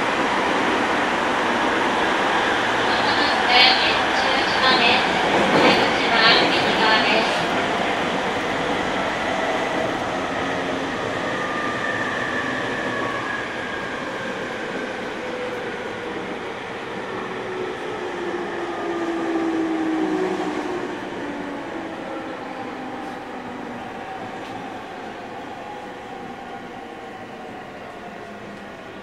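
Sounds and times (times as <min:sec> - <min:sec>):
train wheel and track rumble: 0:00.0 - 0:29.0.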